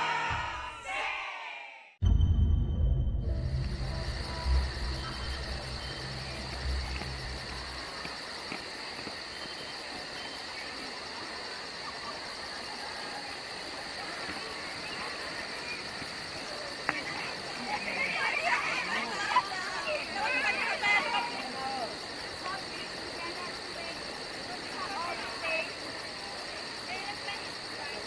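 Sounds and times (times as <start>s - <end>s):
crickets chirping: 2.4s - 28.0s
high insect trill: 3.2s - 28.0s.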